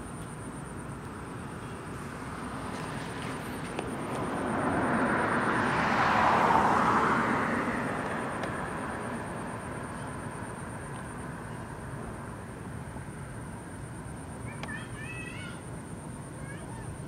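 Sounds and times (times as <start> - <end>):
outdoor background hiss: 0.0 - 17.0
passing vehicle: 0.6 - 14.4.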